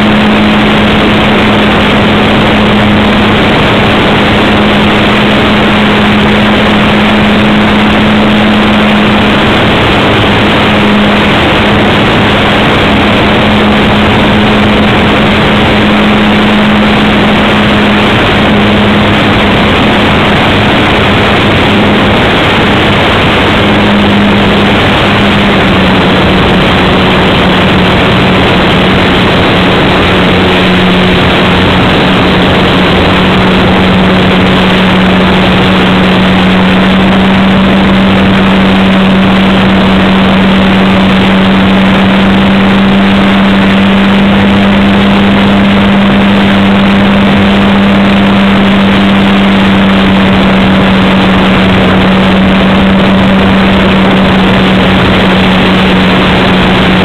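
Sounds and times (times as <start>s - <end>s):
electric motor and propeller hum: 0.0s - 57.0s.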